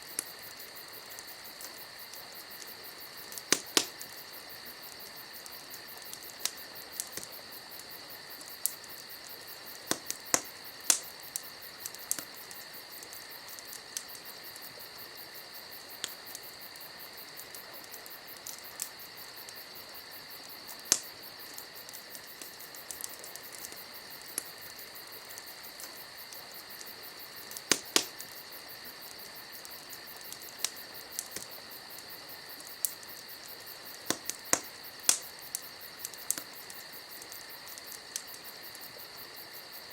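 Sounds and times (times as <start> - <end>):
campfire crackling: 0.0 - 39.9
night insects chirping: 0.0 - 39.9.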